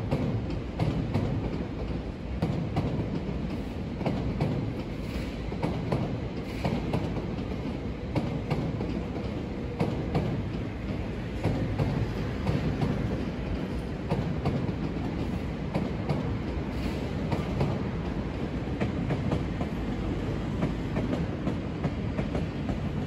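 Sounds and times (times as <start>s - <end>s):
train low rumble: 0.0s - 23.0s
train wheels clacking over joints: 0.0s - 23.0s.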